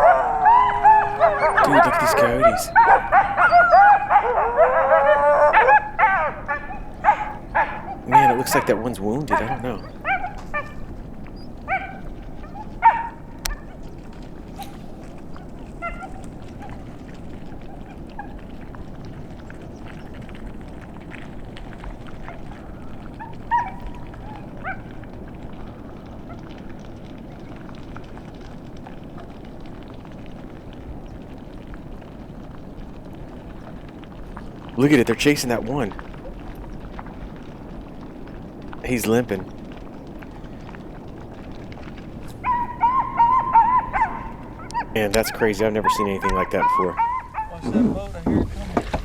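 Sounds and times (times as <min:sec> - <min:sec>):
coyotes yelping and yipping: 0:00.0 - 0:48.0.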